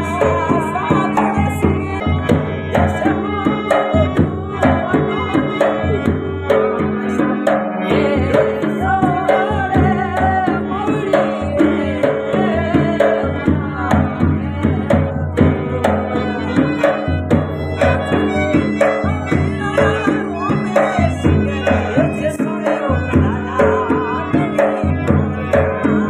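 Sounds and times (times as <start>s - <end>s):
folk singing: 0.0s - 26.0s
melodic instrumental accompaniment: 0.0s - 26.0s
steady drum beat: 0.0s - 26.0s.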